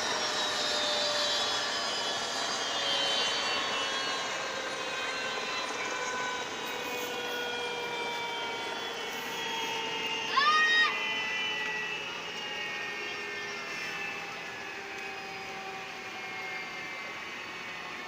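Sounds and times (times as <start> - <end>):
helicopter turbine whining: 0.0 - 18.0.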